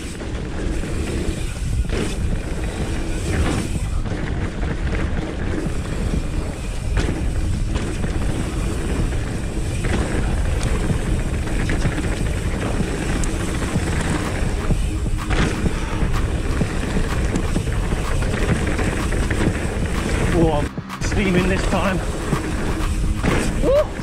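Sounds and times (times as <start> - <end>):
bike knocking on bumps: 0.0 - 24.0
mountain bike rattling: 0.0 - 24.0
tyres rumbling on dirt trail: 0.0 - 24.0
wind buffeting microphone: 0.0 - 24.0.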